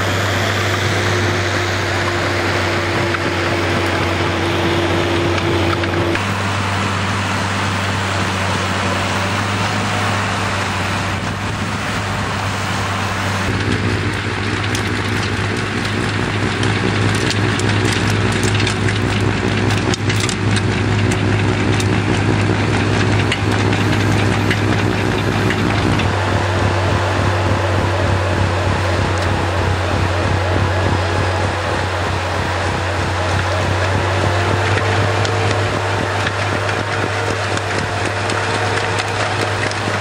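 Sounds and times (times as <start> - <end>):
diesel engine running under load: 0.0 - 40.0
snow blower throwing snow: 0.0 - 40.0.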